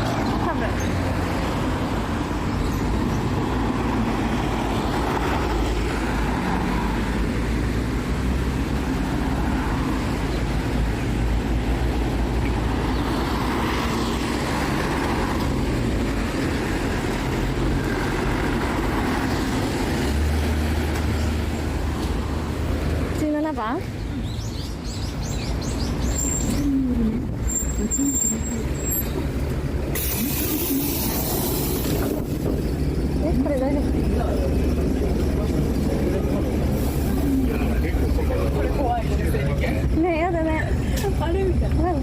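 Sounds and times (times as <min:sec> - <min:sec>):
road noise: 0:00.0 - 0:42.0
vehicle engine rumble: 0:00.0 - 0:42.0.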